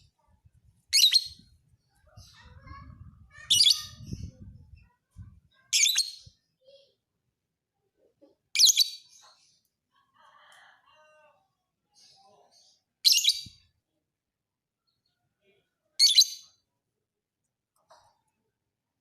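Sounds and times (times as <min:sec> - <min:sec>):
soft bird chatter: 0:00.0 - 0:07.1, 0:07.8 - 0:14.0, 0:14.7 - 0:16.7.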